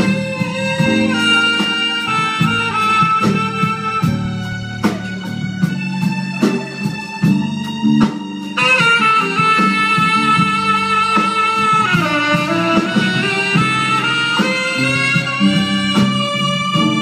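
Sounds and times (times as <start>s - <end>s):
tenor saxophone long notes: 0.0s - 6.9s, 8.6s - 17.0s
drum hits: 0.0s - 17.0s
jazz band playing: 0.0s - 17.0s.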